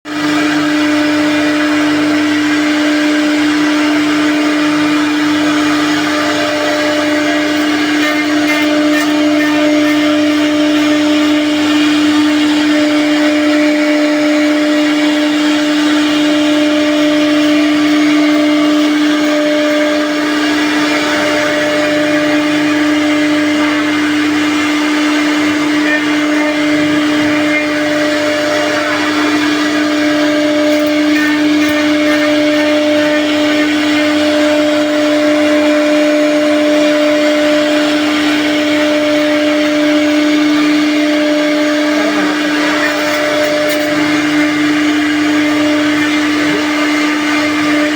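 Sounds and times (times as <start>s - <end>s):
cnc spindle motor whining: 0.0s - 47.9s.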